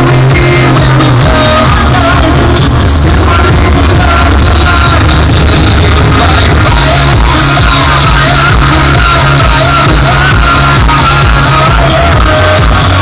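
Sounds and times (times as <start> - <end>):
loud music with heavy bass: 0.0 - 13.0.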